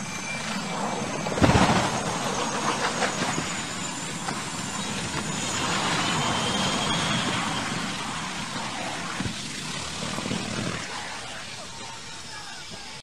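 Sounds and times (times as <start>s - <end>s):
aircraft crash roar: 0.0s - 12.8s
faint high whine: 0.0s - 13.0s.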